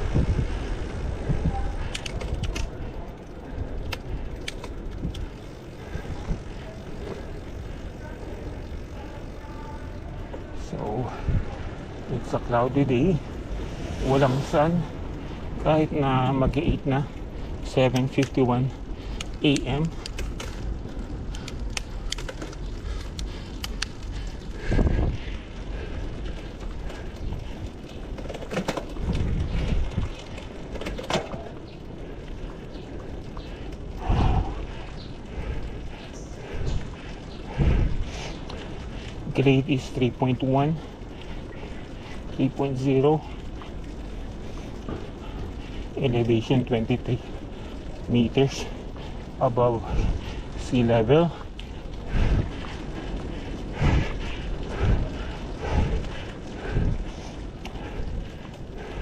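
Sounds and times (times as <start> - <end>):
tyres rolling on paved road: 0.0 - 59.0
wind rumbling on microphone: 0.0 - 59.0.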